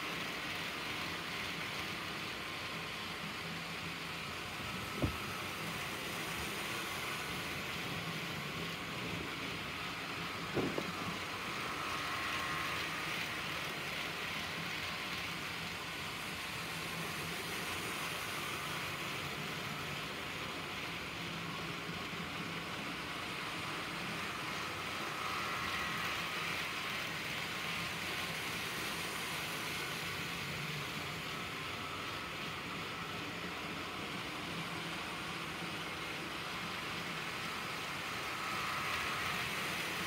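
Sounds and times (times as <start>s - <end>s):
model train hum and rattle: 0.0s - 40.0s.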